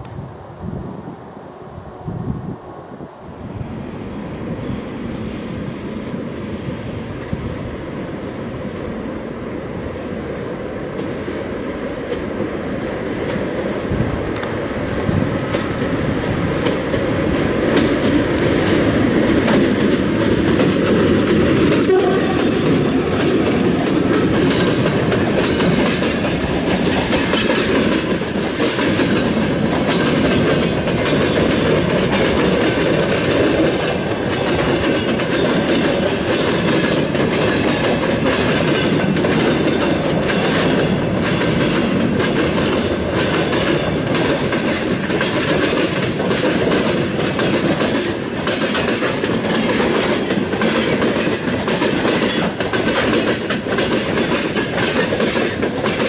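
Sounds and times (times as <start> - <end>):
freight train rumbling past: 0.0 - 56.0
wheels clacking over rail joints: 10.9 - 56.0.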